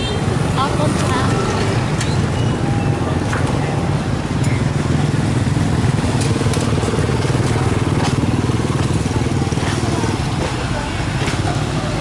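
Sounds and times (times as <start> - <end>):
motorbike engine running: 0.3 - 12.0.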